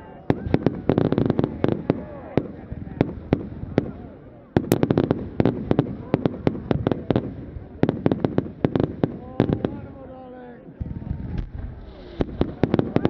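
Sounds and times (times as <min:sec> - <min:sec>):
fireworks bangs and cracks: 0:00.0 - 0:10.0, 0:10.8 - 0:13.0.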